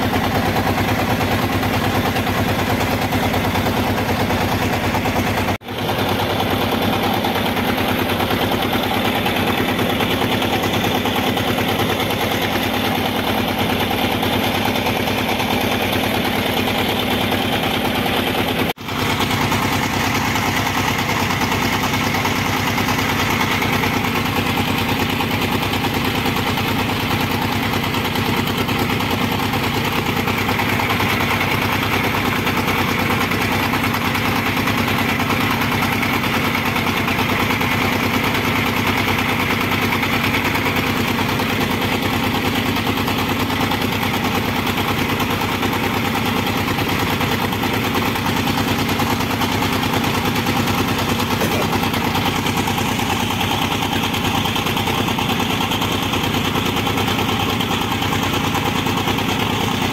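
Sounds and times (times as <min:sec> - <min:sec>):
boat engine clattering: 0:00.0 - 0:59.9.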